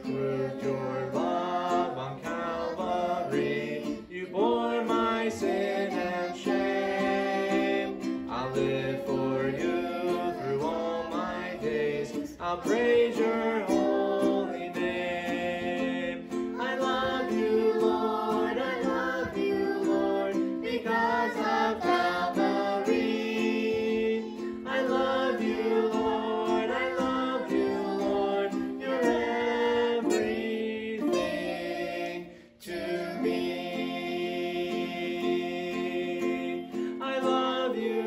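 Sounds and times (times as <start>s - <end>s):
family singing a hymn: 0.0s - 38.0s
strummed ukulele: 0.0s - 38.0s.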